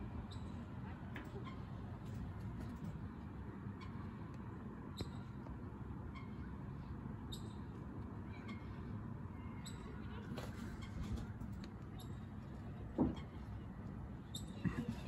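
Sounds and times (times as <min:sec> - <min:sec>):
low outdoor background noise: 0:00.0 - 0:15.0.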